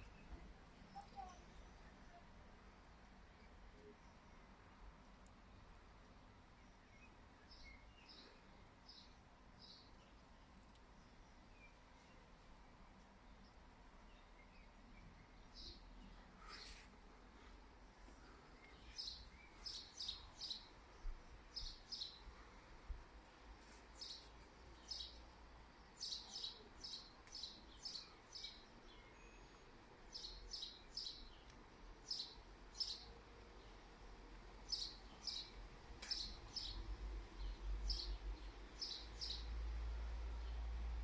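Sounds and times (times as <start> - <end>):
small birds chirping: 0.0 - 4.5, 5.1 - 39.6.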